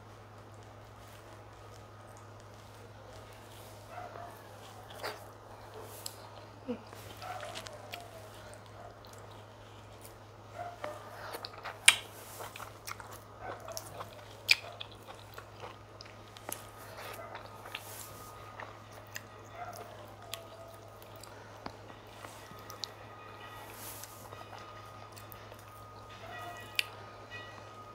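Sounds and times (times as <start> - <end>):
person chewing food: 0.2 - 27.4.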